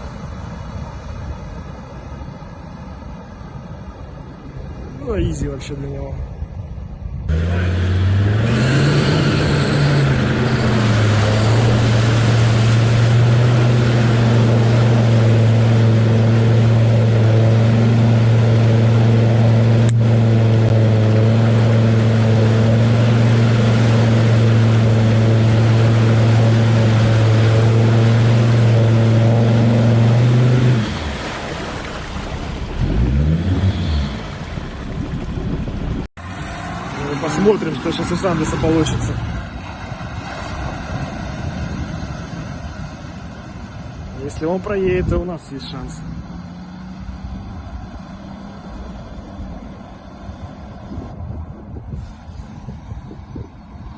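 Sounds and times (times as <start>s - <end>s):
churning water: 7.3s - 50.8s
off-road vehicle engine revving: 7.3s - 51.1s.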